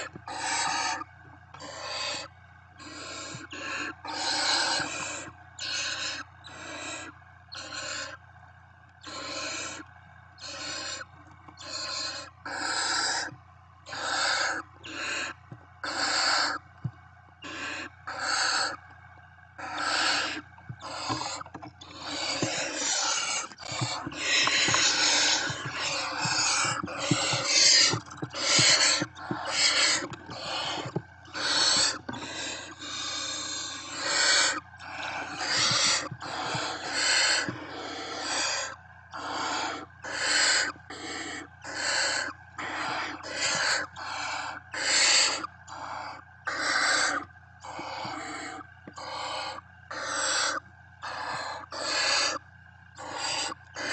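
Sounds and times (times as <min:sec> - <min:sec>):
owl chicks hissing calls: 0:00.0 - 0:08.2, 0:09.0 - 0:09.8, 0:10.4 - 0:16.6, 0:17.4 - 0:18.8, 0:19.6 - 0:53.9.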